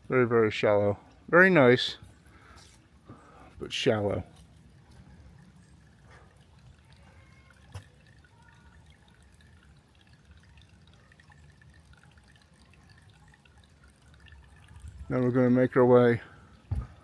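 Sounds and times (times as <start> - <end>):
water trickling in a creek: 0.0 - 17.0.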